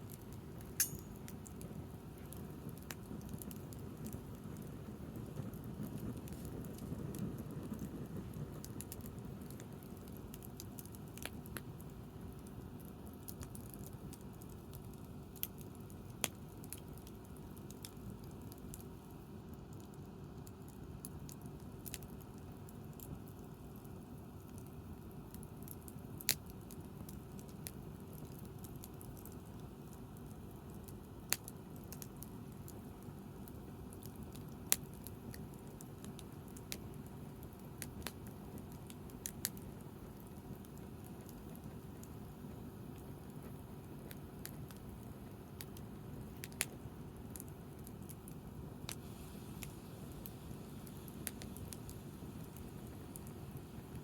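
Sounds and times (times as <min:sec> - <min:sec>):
sharp pops of fire: 0:00.0 - 0:54.0
wood bonfire crackling: 0:00.0 - 0:54.0.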